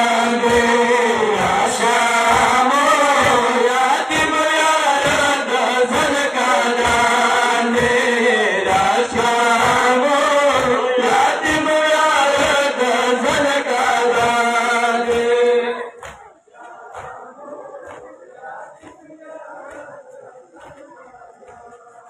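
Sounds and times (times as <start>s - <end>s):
crowd beating chests in unison: 0.0s - 22.0s
men chanting: 0.0s - 22.0s.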